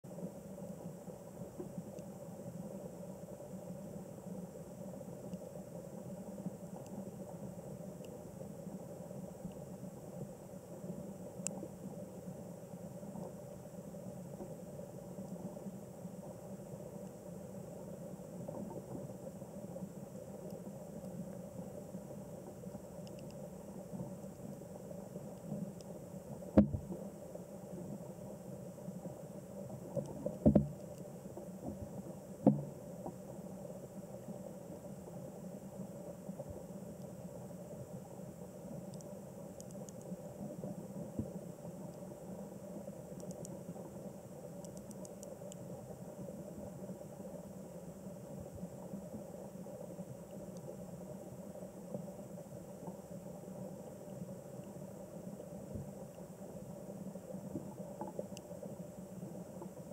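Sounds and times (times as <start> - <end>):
low muffled hum and hiss: 0.0 - 59.9.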